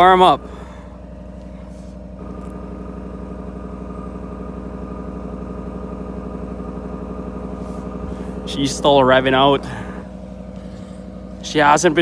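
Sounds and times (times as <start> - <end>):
truck engine fast idling: 0.0 - 12.0.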